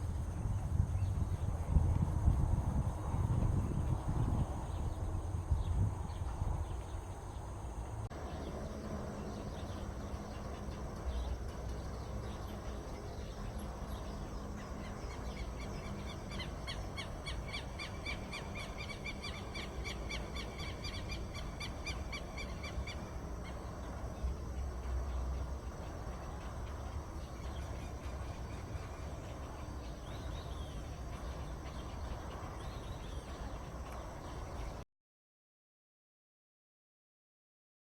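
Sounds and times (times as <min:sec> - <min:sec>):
low outdoor rumble: 0:00.0 - 0:34.8.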